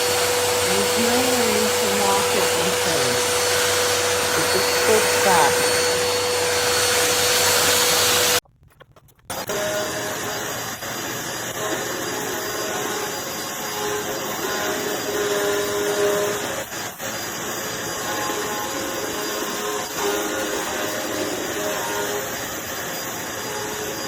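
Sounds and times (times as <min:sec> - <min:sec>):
vacuum cleaner whine: 0:00.0 - 0:08.4, 0:09.3 - 0:24.0.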